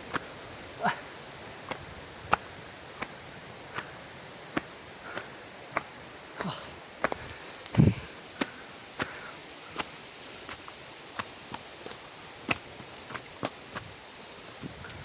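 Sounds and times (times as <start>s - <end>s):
distant waterfall rushing: 0.0s - 15.0s.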